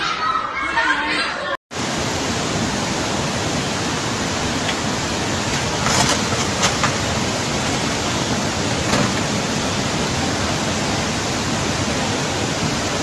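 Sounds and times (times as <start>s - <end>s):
floodwater rushing: 1.7s - 13.0s.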